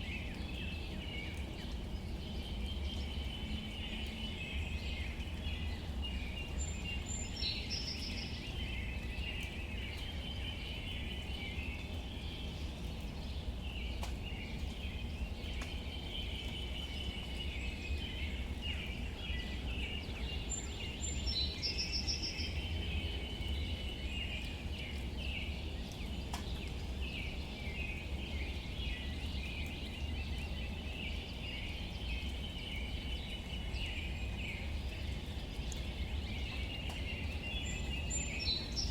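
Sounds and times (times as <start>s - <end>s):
light rain on leaves: 0.0s - 38.9s.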